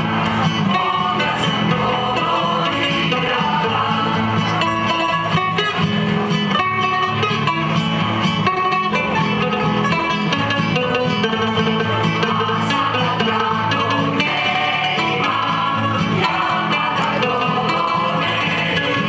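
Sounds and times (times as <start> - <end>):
plucked string folk music: 0.0 - 19.0.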